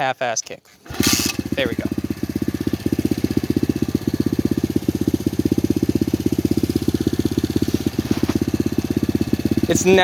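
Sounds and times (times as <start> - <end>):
motorbike engine idling: 0.8 - 10.0.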